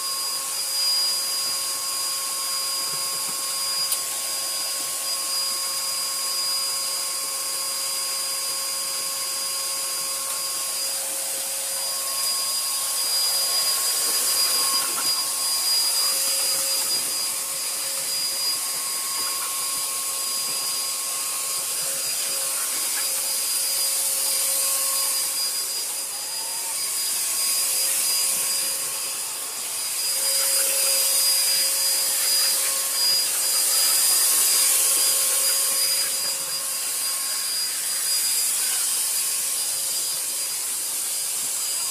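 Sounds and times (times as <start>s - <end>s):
fogging sprayer hissing: 0.0s - 41.9s
motor whine: 0.0s - 41.9s.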